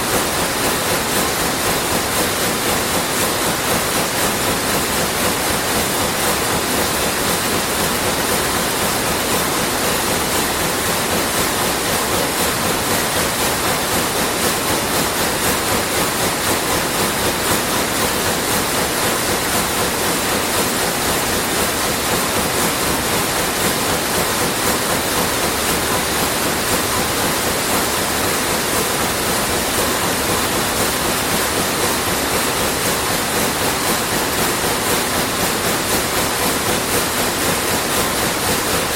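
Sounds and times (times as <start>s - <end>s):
weaving looms clattering: 0.0s - 38.9s.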